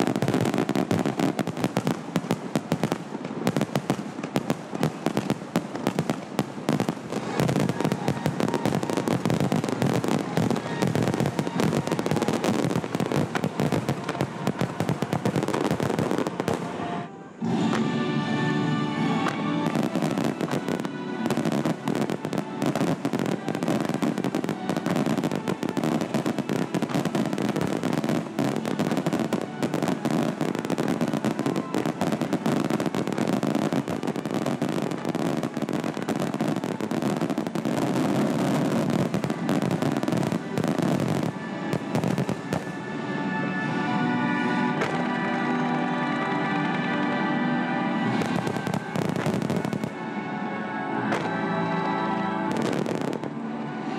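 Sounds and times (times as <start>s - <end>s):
fireworks bursting and crackling: 0.0s - 53.9s
music: 0.0s - 53.9s.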